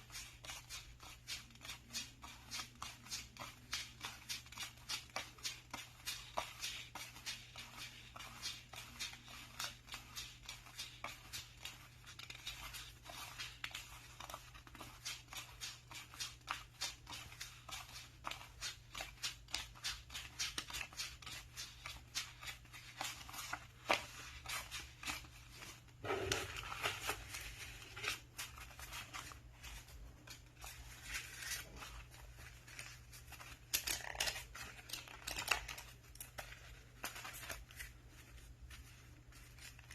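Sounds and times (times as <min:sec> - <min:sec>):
banknotes rustling: 0:00.0 - 0:39.9.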